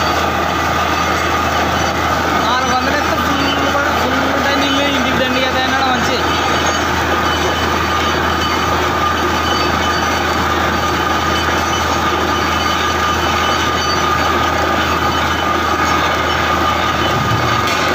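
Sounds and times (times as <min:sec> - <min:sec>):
drilling rig running: 0:00.0 - 0:17.9.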